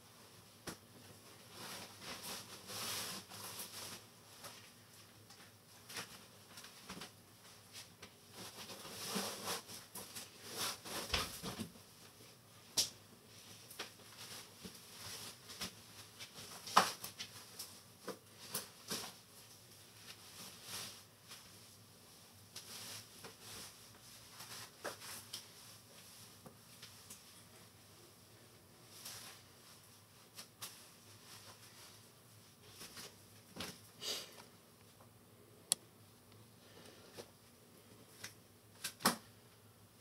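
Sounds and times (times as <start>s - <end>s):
rustling of small things: 0.1s - 35.1s.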